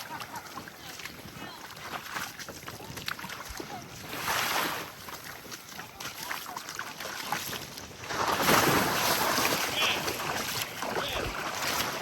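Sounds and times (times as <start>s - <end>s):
small wave washing up sand: 0.0s - 12.0s.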